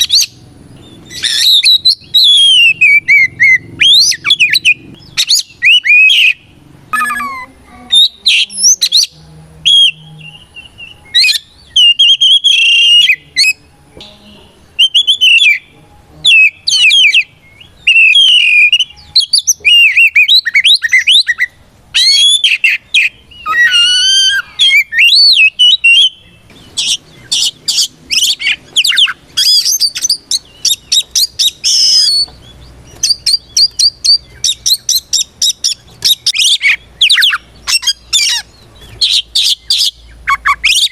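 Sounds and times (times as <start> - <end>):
songbird whistling and warbling: 0.0 - 40.9.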